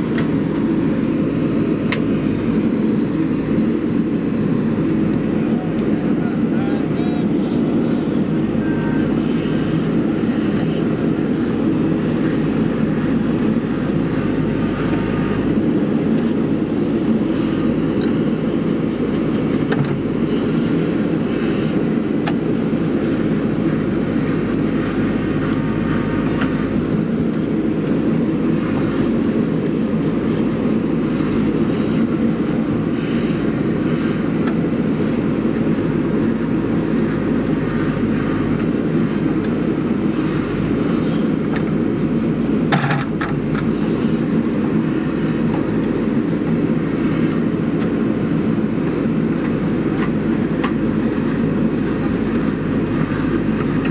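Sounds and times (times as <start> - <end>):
diesel engine droning under load: 0.0 - 53.9.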